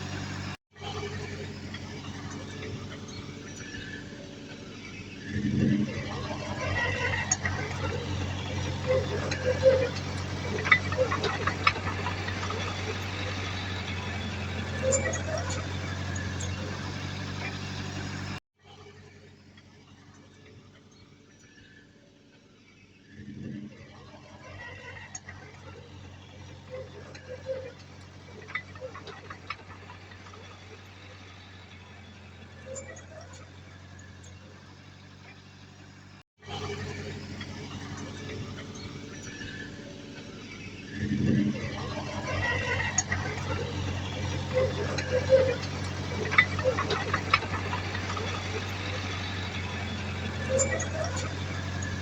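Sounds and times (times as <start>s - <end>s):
short squeaks: 0.0s - 18.4s, 24.2s - 52.0s
diesel engine running: 0.0s - 52.0s.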